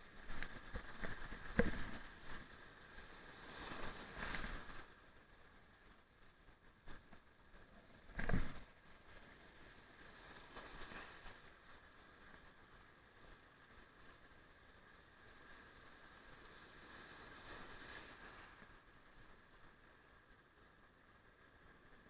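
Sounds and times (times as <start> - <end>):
sea surf washing ashore: 0.0 - 6.0, 6.8 - 20.7.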